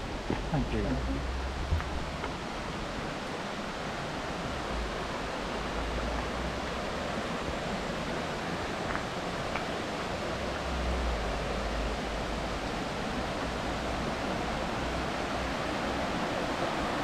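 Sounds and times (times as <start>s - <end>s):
water pouring over waterfall: 2.0s - 17.0s.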